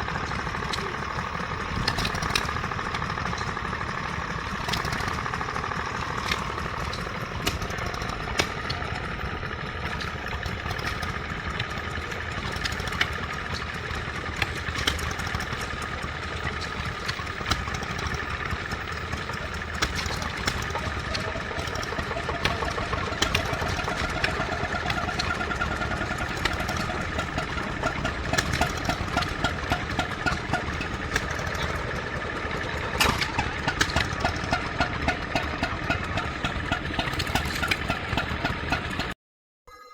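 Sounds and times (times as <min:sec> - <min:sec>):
engine ticks and knocks: 0:00.0 - 0:39.2
stationary engine running: 0:00.0 - 0:39.2.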